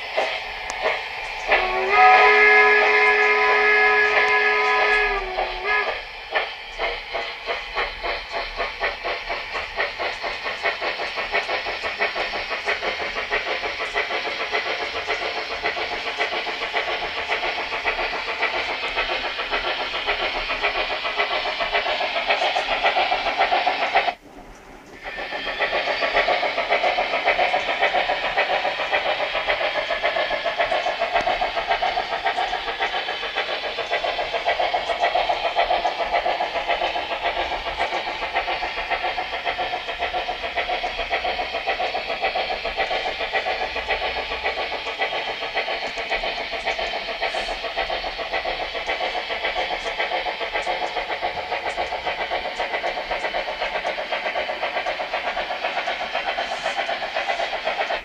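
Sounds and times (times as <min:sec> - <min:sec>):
model steam locomotive chuffing: 0:00.0 - 0:58.0.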